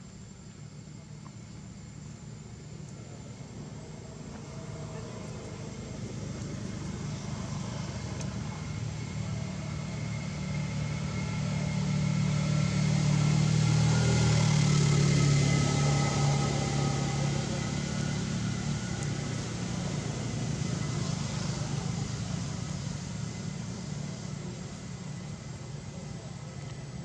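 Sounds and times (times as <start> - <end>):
vehicle engine passing by: 3.4 - 27.0.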